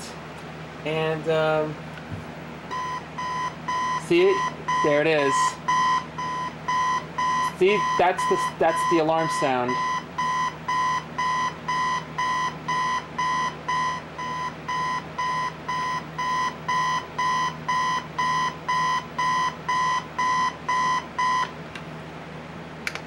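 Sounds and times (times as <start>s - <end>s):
alarm clock beeping: 2.7s - 21.5s.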